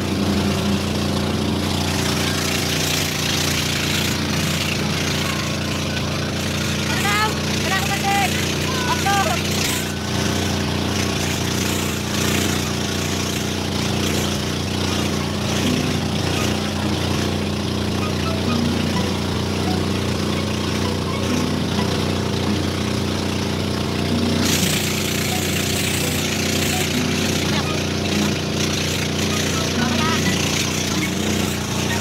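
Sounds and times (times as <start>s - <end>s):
boat engine drone: 0.0s - 32.0s.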